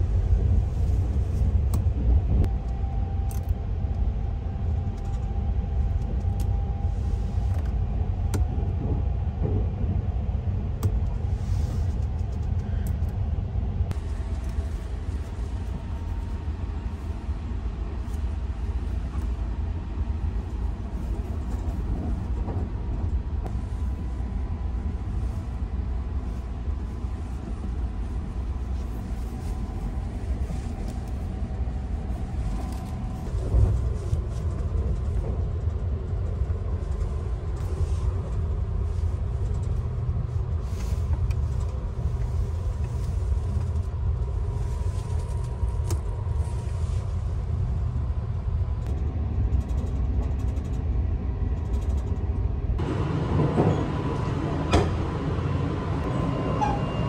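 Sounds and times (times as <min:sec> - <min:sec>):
train rumbling at speed: 0:00.0 - 0:57.0.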